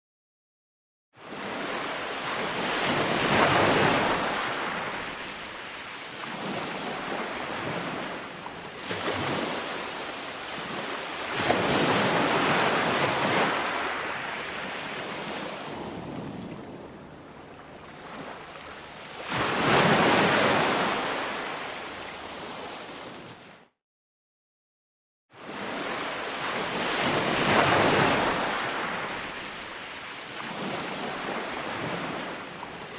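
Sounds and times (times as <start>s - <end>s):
ocean waves breaking on shore: 1.2s - 23.8s, 25.3s - 32.9s.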